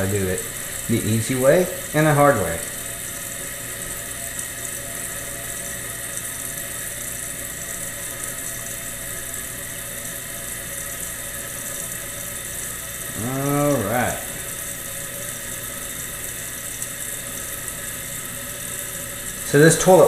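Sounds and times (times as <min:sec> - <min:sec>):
toilet tank refilling: 0:00.0 - 0:20.0.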